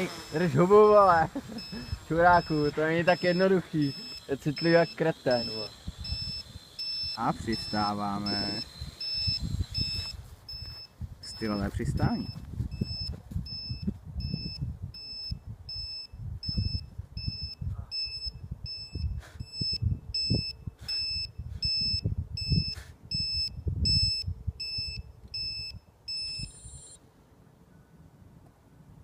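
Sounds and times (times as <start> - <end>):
electronic alarm beeping: 0.0 - 27.0.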